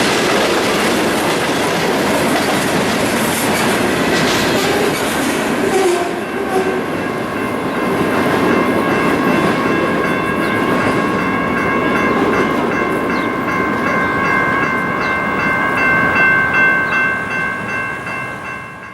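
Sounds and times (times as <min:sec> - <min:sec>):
freight train rumbling past: 0:00.0 - 0:18.9.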